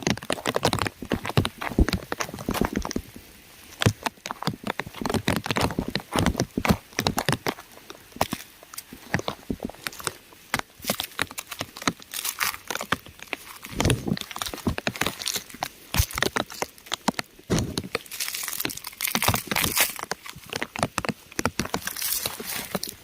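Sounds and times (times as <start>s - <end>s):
raindrops pattering on rock: 0.0s - 23.0s.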